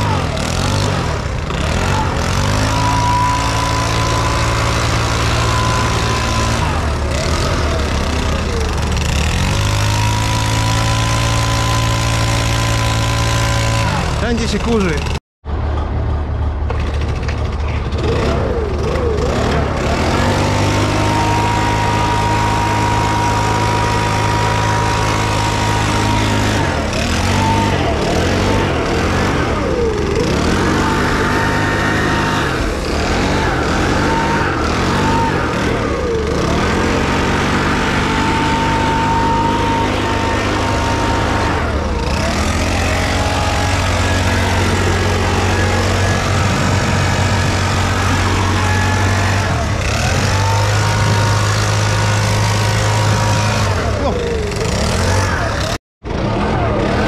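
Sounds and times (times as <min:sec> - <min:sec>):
cordless blower whining: 0:00.0 - 0:15.0, 0:17.5 - 0:57.0
diesel engine running: 0:00.0 - 0:57.0.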